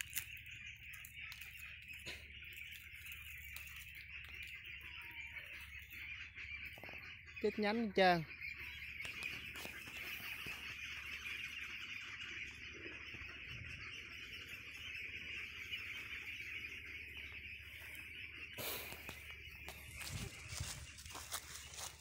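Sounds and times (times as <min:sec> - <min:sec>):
birds and insects chirring: 0:00.0 - 0:22.0.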